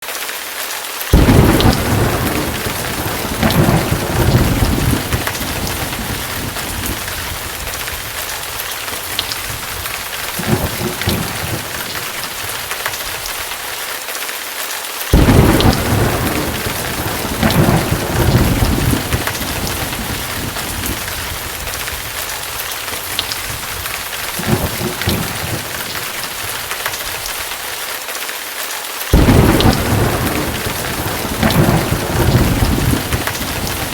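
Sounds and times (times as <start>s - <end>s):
heavy rain hiss: 0.4s - 33.9s
thunder cracking and rumbling: 1.1s - 13.6s, 15.1s - 27.6s, 29.1s - 33.9s.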